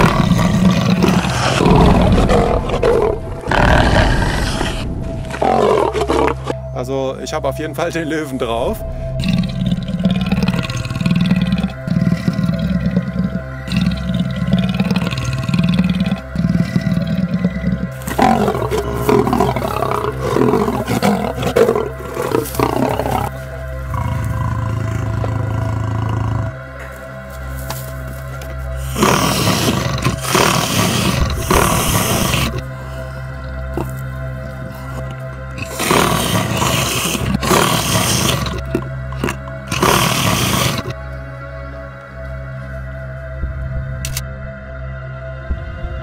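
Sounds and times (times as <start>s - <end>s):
leopard snarling: 0.0s - 6.6s, 9.1s - 41.0s
lion roaring: 0.0s - 6.6s, 9.1s - 27.2s, 28.8s - 41.0s
background music: 0.0s - 46.0s.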